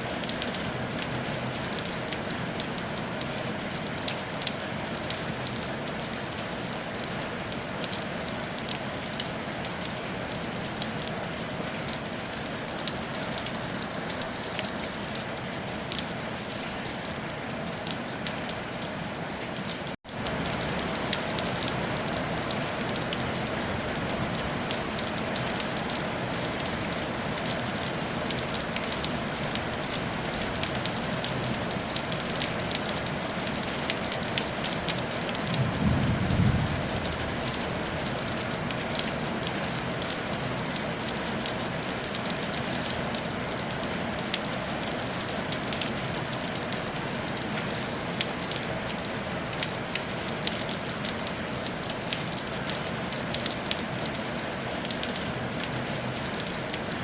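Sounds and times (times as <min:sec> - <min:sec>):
rain on a tile roof: 0:00.0 - 0:57.0.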